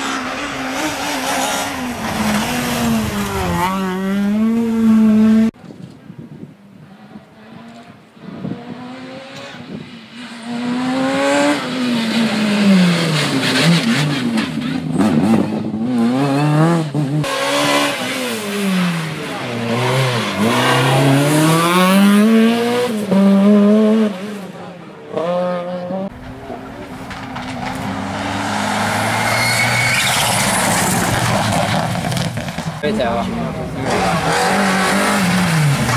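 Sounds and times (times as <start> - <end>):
rally car engine revving: 0.0 - 5.6, 7.1 - 35.9.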